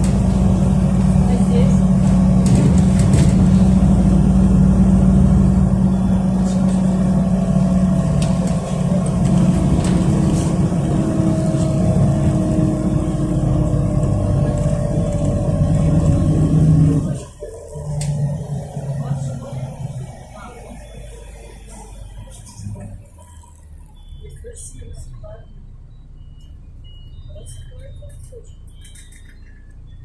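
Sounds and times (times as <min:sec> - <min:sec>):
bus engine droning: 0:00.0 - 0:30.0
drivetrain whine: 0:00.0 - 0:30.0.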